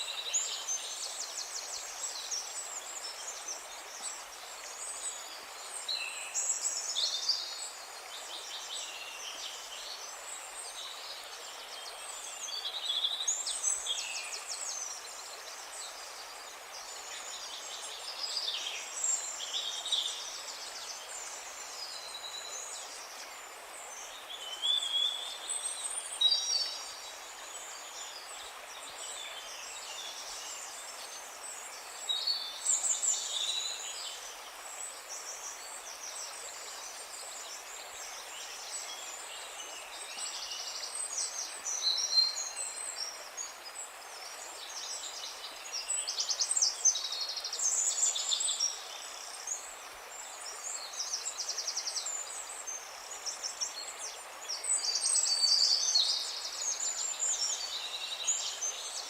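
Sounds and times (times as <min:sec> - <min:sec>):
songbirds singing and calling: 0:00.0 - 0:59.0
steady background hiss: 0:00.0 - 0:59.0.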